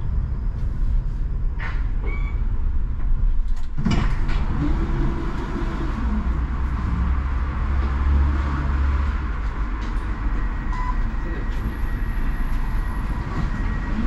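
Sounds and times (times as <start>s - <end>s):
tram rumbling: 0.0s - 14.0s.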